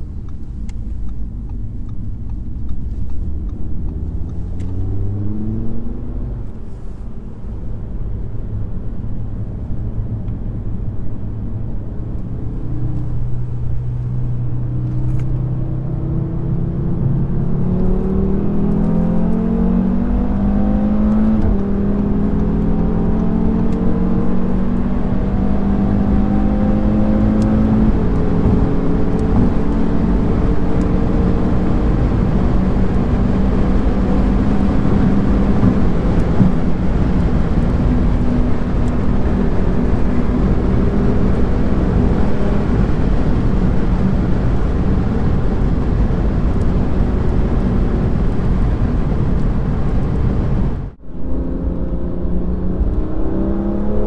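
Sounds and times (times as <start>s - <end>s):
car engine accelerating: 0.0s - 54.0s
wind and tyre noise: 0.0s - 54.0s.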